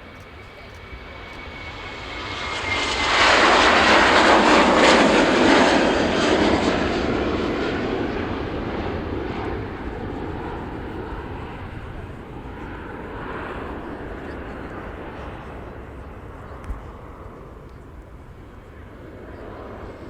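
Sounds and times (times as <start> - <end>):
aircraft engine passing: 0.0 - 20.0.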